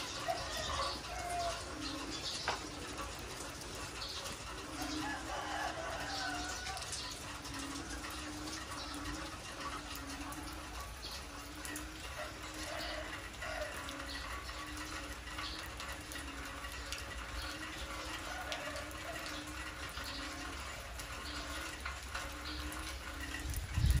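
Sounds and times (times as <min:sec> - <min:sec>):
rain pattering on concrete: 0:00.0 - 0:24.0.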